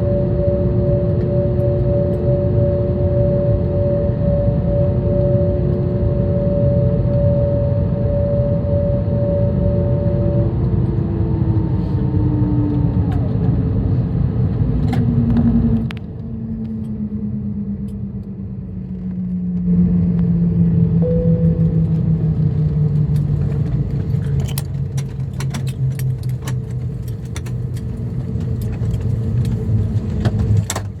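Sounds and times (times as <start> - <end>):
jet engine spooling down: 0.0 - 27.2.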